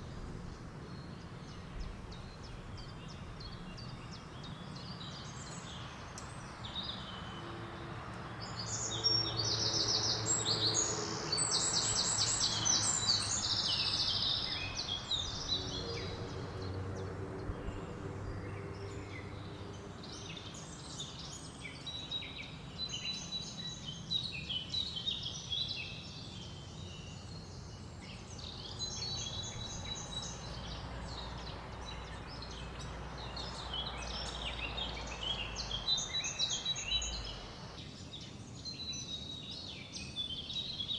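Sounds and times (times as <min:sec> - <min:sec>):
birds singing: 0:00.0 - 0:40.9
wind through leaves: 0:00.0 - 0:40.9.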